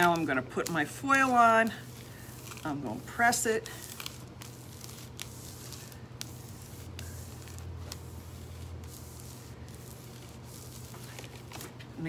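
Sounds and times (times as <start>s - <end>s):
iron rubbing and crinkling foil: 0.0s - 12.0s
steady low hum: 0.0s - 12.0s.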